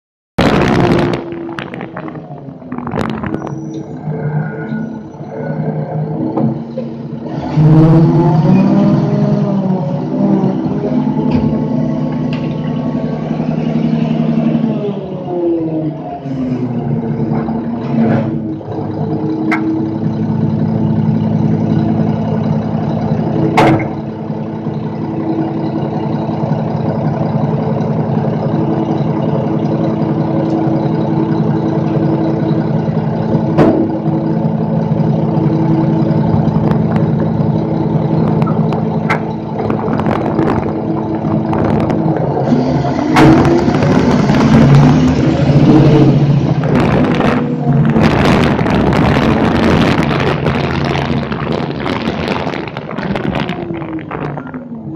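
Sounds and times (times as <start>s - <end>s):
truck engine idling and revving: 0.4s - 54.9s.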